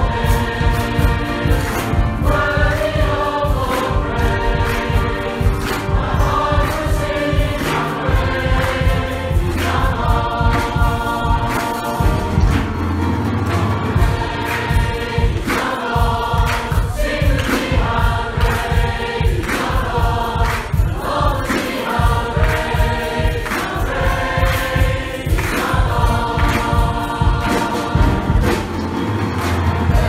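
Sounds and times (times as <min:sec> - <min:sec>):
choir and congregation singing: 0:00.0 - 0:30.0.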